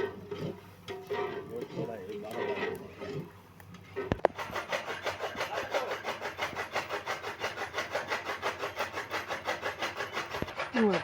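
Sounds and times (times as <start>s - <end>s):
rapid back-and-forth scraping: 0.0s - 11.0s.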